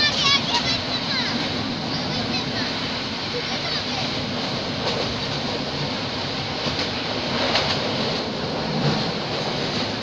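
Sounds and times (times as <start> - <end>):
train wheel and wind rush: 0.0 - 10.0
wheels clicking over rails: 0.0 - 10.0.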